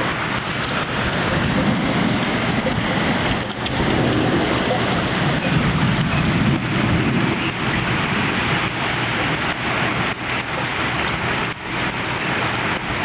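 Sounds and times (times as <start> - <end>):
heavy rain falling: 0.0 - 13.0
low thunder rumble: 0.0 - 13.0.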